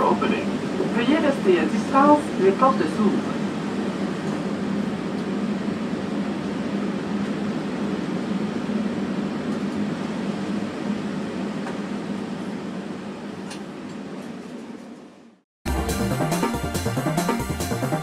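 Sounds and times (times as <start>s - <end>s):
air conditioning hum: 0.0s - 15.4s.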